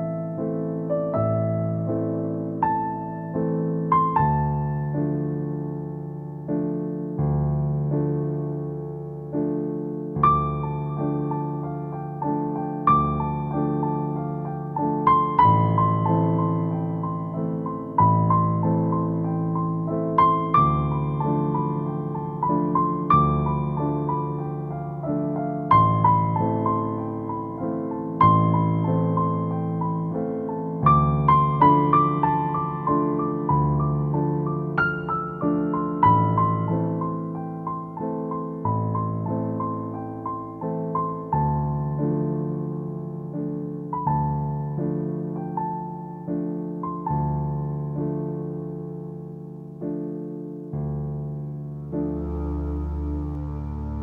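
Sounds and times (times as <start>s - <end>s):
soft piano music: 0.0s - 54.0s.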